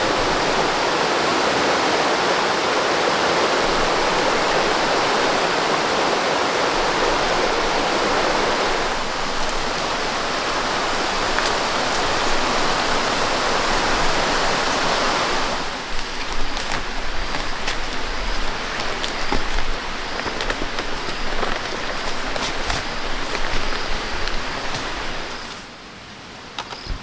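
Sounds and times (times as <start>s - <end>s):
water rushing: 0.0s - 25.5s
uneven pattering: 3.6s - 25.7s.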